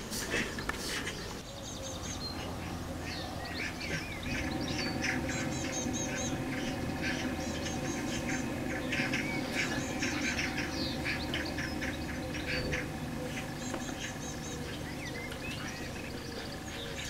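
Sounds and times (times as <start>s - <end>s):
magpies rattling chatter calls: 0.0s - 17.0s
small birds chirping: 0.0s - 17.0s.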